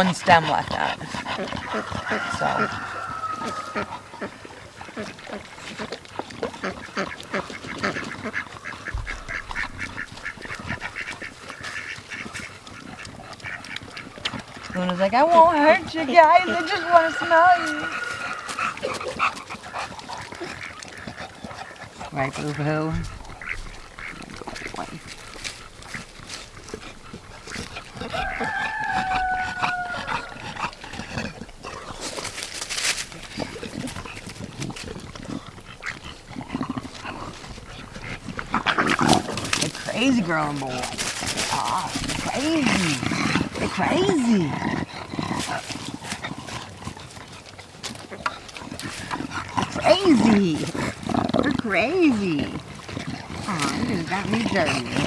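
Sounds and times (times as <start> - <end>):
drawn-out animal call: 0.0 - 55.0
ducks quacking: 0.0 - 55.0
pigs grunting: 0.0 - 55.0
rustling: 0.0 - 55.0.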